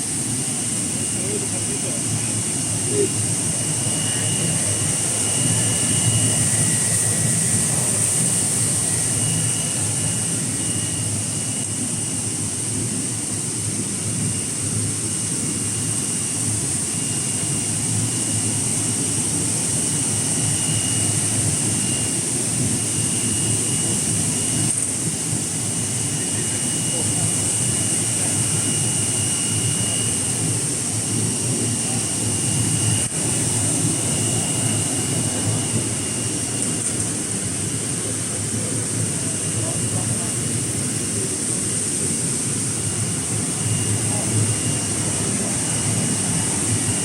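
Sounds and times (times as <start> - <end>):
faint high machine whine: 0.0 - 47.0.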